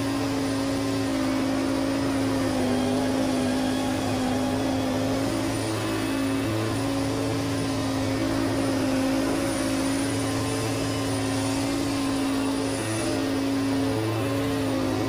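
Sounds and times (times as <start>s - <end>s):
lawn tractor engine humming: 0.0s - 15.0s.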